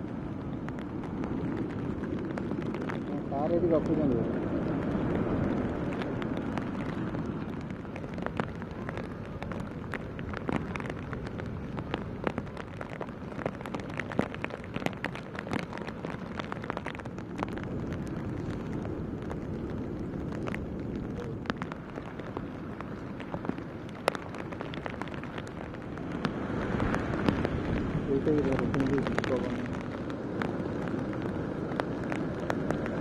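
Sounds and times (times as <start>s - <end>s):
heavy rain falling: 0.0s - 33.0s
raindrops ticking on surfaces: 0.0s - 33.0s.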